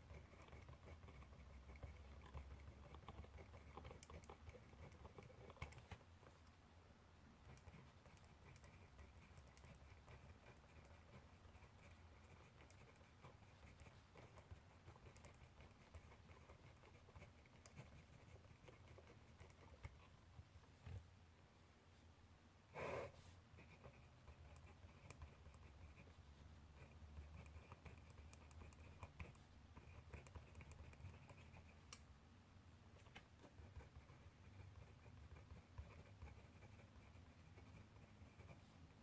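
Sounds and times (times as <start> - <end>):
pen scratching on paper: 0.0 - 6.5, 7.4 - 20.1, 22.8 - 31.9, 33.4 - 39.0
low room hum: 0.0 - 39.0.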